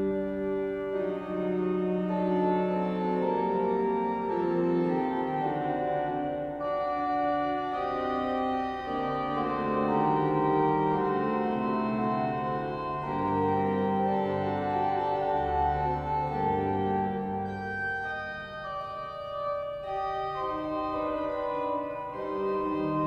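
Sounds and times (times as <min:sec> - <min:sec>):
organ playing slow chords: 0:00.0 - 0:23.0.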